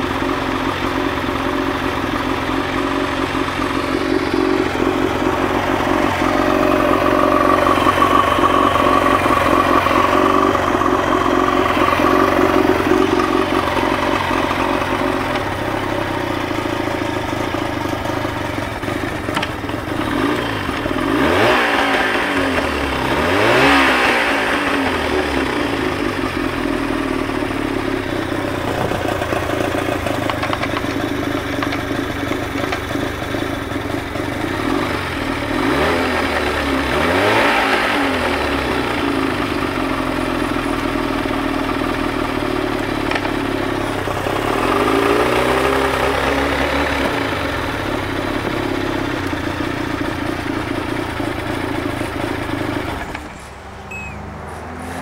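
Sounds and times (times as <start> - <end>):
outboard motor idling and revving: 0.0 - 55.0.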